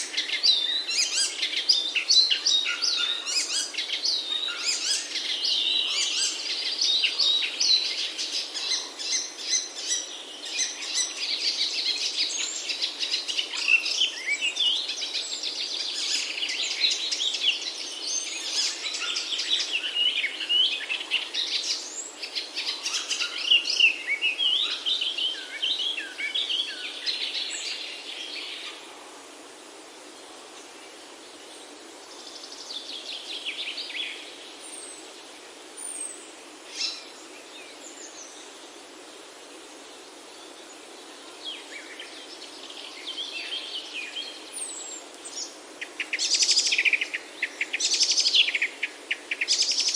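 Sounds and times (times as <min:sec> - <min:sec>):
faint steady hiss: 0:00.0 - 0:49.9
songbirds chorus: 0:00.0 - 0:49.9.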